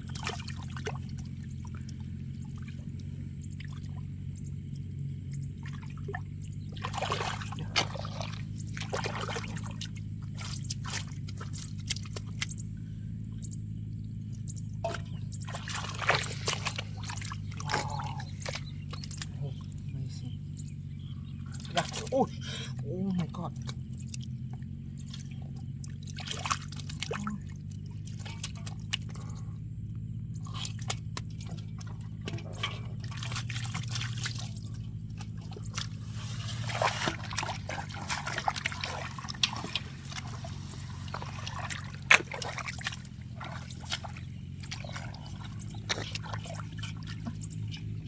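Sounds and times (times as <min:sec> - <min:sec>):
small splashes and clicks: 0:00.0 - 0:22.2, 0:23.1 - 0:48.0
low hum: 0:00.0 - 0:48.0
muddy water sloshing: 0:00.0 - 0:48.0.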